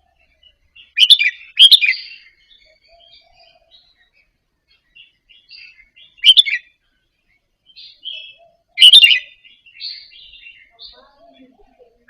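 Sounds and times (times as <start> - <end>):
bird twittering song: 0.0 - 12.0.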